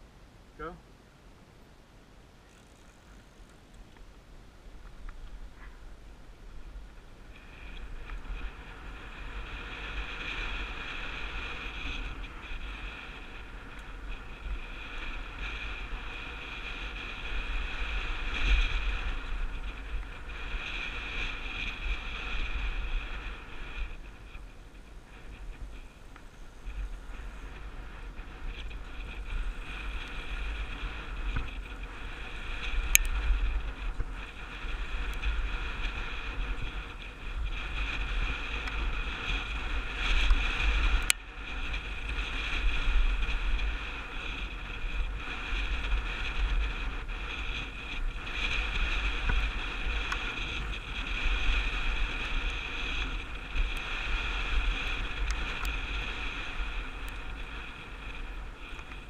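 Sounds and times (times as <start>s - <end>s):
bike tyres rolling hiss: 2.3s - 59.0s
wind buffeting microphone: 2.4s - 59.0s.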